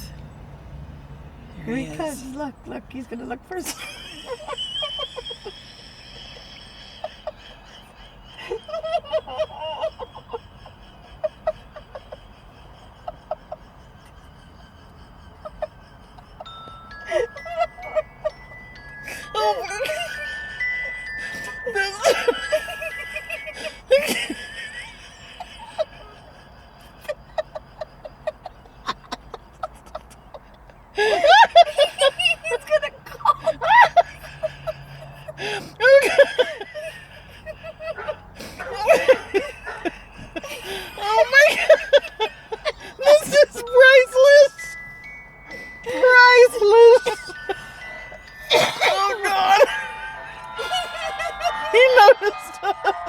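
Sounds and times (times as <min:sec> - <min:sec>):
stifled giggling: 0:01.7 - 0:53.0.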